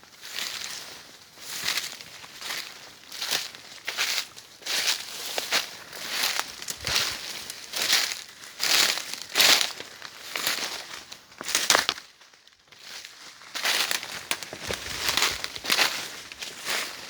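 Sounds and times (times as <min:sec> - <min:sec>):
footsteps crunching through dry leaves: 0:00.1 - 0:17.0.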